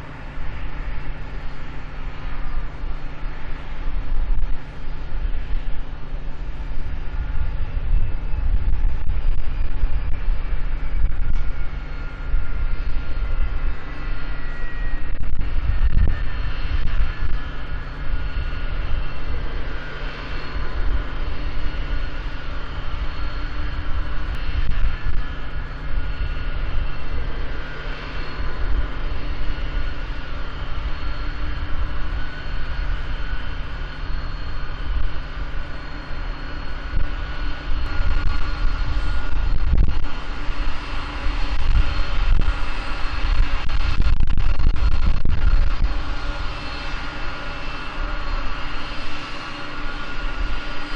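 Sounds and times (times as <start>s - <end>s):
jet engines whining and rumbling: 0.0s - 50.9s.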